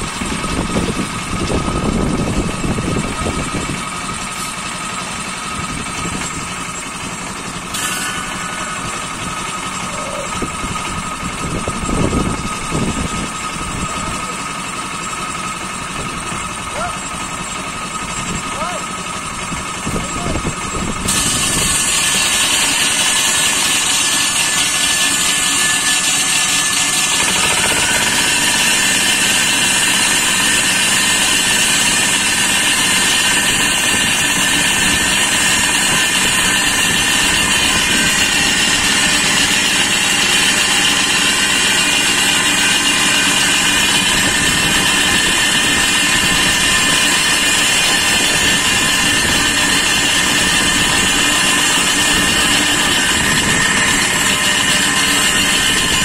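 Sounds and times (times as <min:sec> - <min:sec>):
engine-driven saw cutting concrete: 0:00.0 - 0:56.0.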